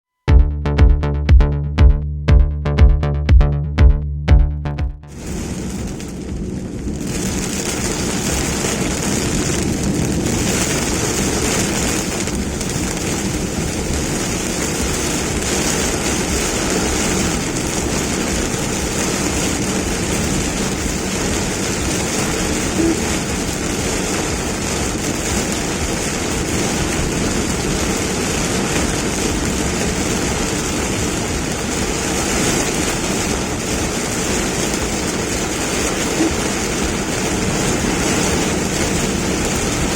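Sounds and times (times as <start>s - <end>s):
rain and wet road spray hiss: 5.1s - 39.9s.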